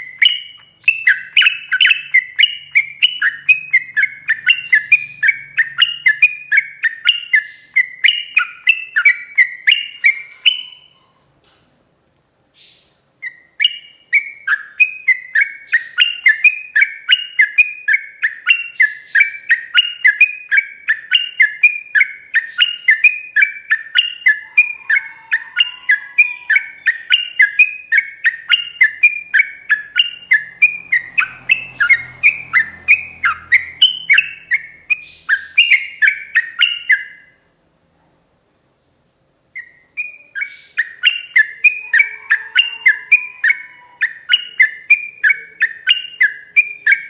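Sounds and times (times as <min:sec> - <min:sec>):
bulbul chattering song: 0:00.0 - 0:11.1, 0:12.6 - 0:37.4, 0:39.6 - 0:47.0.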